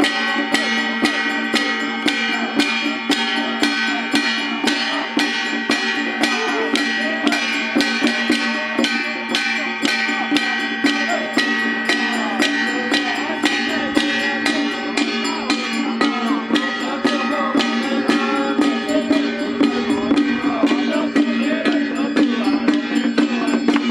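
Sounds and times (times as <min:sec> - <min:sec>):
held pitched tones: 0:00.0 - 0:23.9
struck percussion beat: 0:00.0 - 0:23.9
wavering melody: 0:00.0 - 0:23.9.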